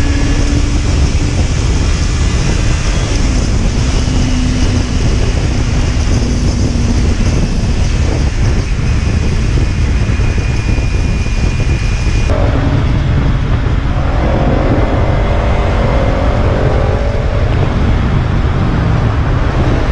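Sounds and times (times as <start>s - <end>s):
motorcycle engine and exhaust: 0.0s - 19.9s
wind noise: 0.0s - 19.9s.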